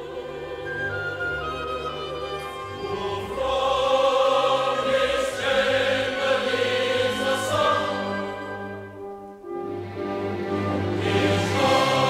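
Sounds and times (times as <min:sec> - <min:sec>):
choir singing: 0:00.0 - 0:12.0
symphony orchestra: 0:00.0 - 0:12.0.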